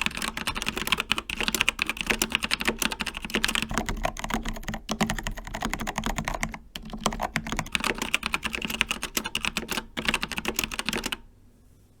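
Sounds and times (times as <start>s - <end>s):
mechanical keyboard typing: 0.0s - 11.3s.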